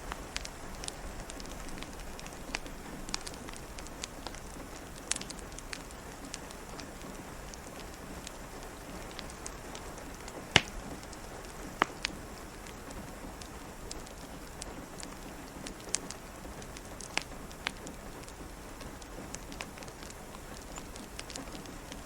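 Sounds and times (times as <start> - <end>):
rain patter: 0.0 - 22.0
wood fire crackling and popping: 0.0 - 22.0.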